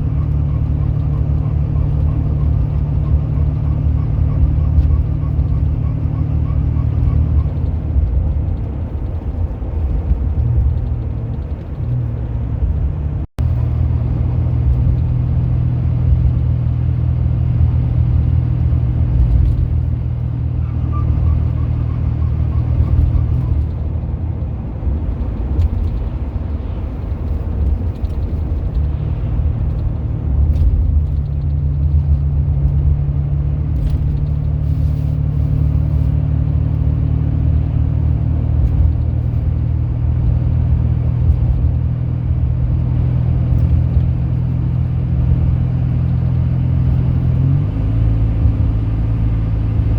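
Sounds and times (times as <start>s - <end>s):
car engine droning: 0.0s - 49.9s.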